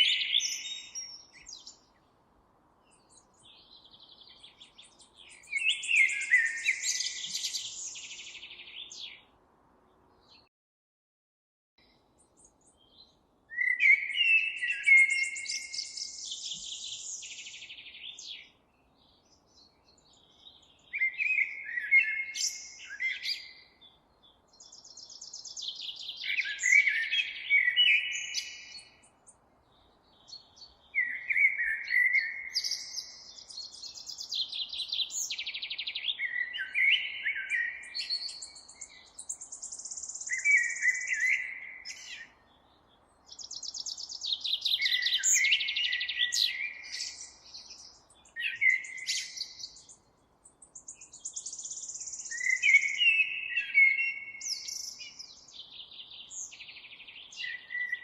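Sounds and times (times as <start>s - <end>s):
songbird singing trills: 0.0s - 2.0s, 2.9s - 9.3s, 11.8s - 58.0s.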